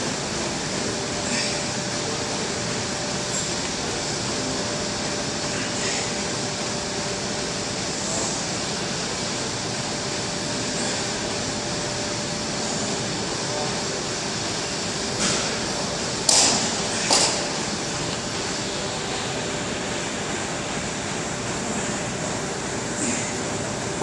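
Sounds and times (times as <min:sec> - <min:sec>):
air conditioning hiss: 0:00.0 - 0:24.0.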